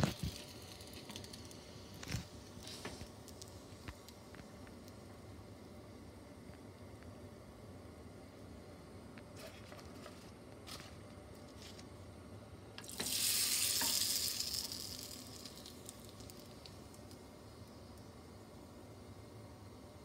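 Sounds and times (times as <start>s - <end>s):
rice paper sizzling in hot oil: 0.0s - 5.5s, 9.2s - 20.0s.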